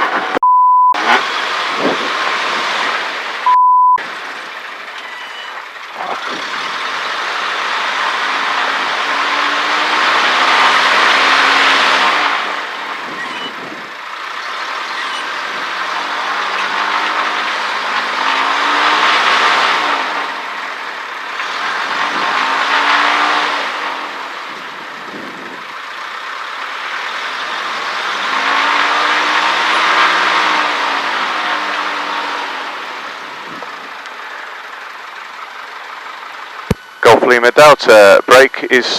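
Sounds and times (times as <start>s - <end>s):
propeller plane engine revving: 1.0s - 38.9s.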